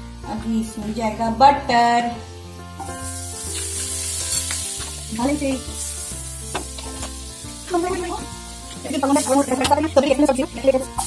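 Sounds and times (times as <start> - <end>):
butter sizzling in a frying pan: 0.2 - 11.0.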